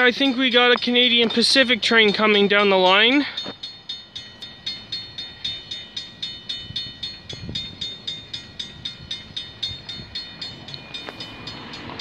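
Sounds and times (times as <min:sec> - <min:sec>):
level crossing bell ringing: 0:00.0 - 0:12.0.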